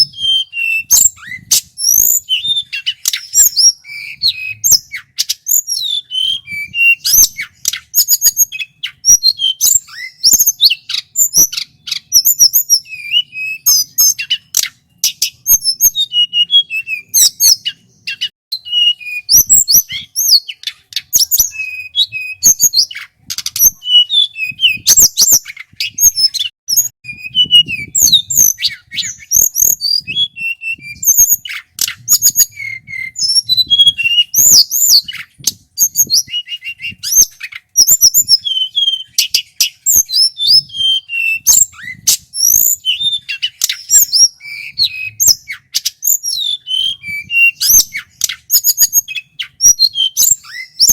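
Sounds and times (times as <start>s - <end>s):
bird singing whistles and chirps: 0.0s - 50.9s.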